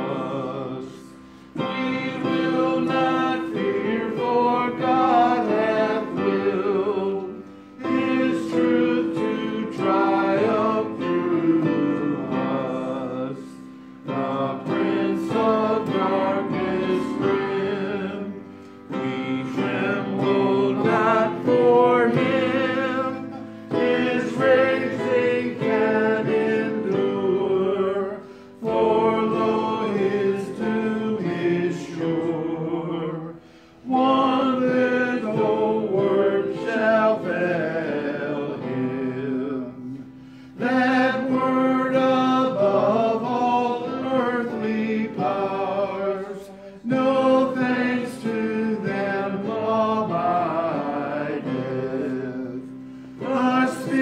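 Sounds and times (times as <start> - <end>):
congregation singing a hymn: 0.0 - 54.0
electric keyboard accompaniment: 0.0 - 54.0.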